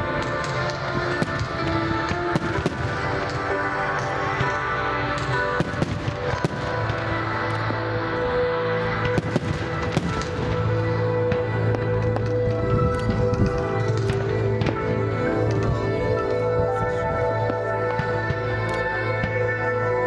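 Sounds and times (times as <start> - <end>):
fireworks cracking and popping: 0.0 - 8.0, 8.8 - 18.5
loud music: 0.0 - 20.0.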